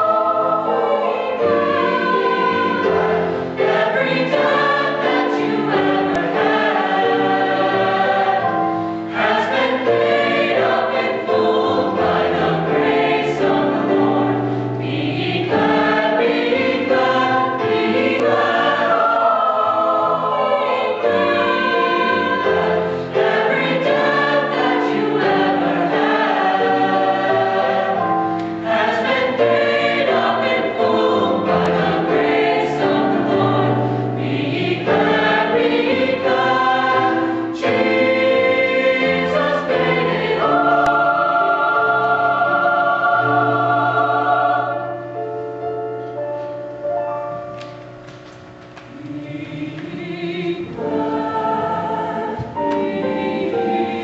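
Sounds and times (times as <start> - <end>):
choir singing in harmony: 0.0 - 47.8, 48.8 - 54.0.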